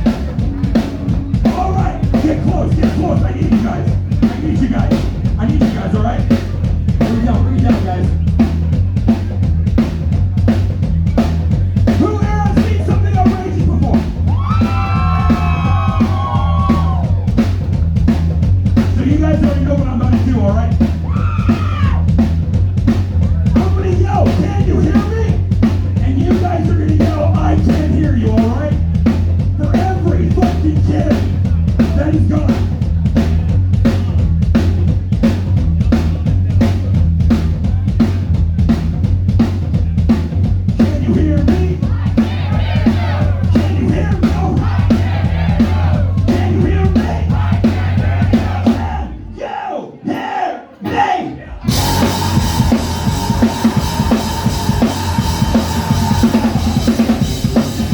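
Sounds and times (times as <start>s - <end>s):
drum kit steady beat: 0.0s - 49.2s, 50.9s - 57.9s
heavy bass: 0.0s - 49.4s, 50.9s - 57.9s.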